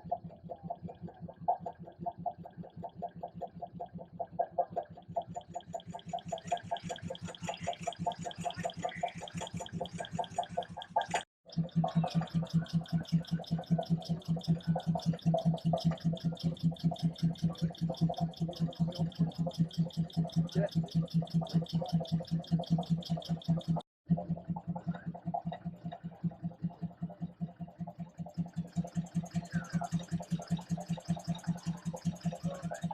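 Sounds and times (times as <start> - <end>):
engine with deeper beat: 0.0 - 32.9
stationary engine running: 0.0 - 32.9.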